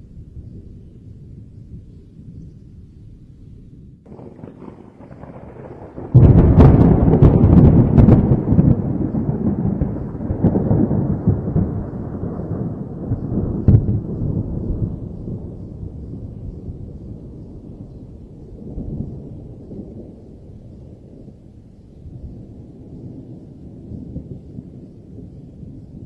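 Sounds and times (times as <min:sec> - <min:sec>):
thunder clap and rumble: 0:04.1 - 0:26.0.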